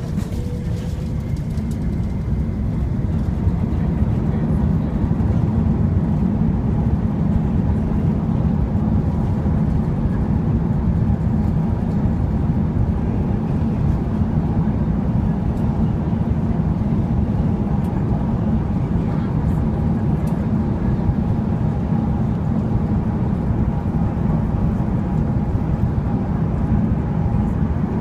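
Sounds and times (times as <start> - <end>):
airliner rolling on runway: 0.0 - 28.0.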